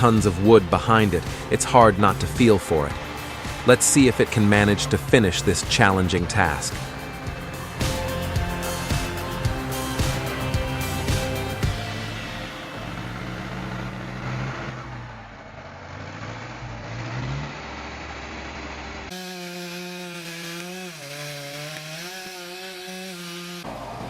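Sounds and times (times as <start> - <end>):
engine saw cutting wood: 0.0 - 24.0.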